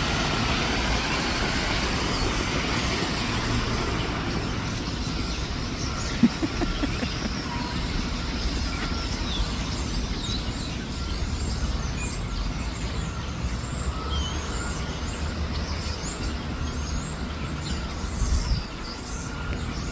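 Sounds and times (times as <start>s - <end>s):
small birds chirping: 0.9s - 19.9s.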